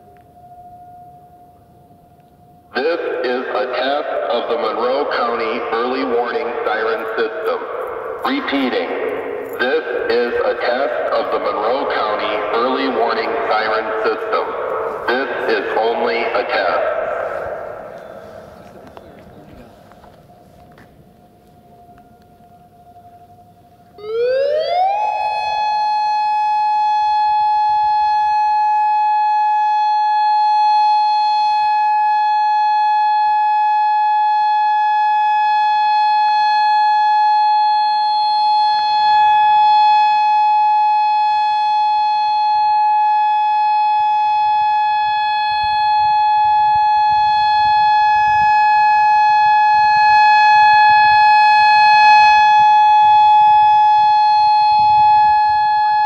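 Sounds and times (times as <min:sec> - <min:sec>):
electronic warning siren: 0:00.0 - 0:56.0.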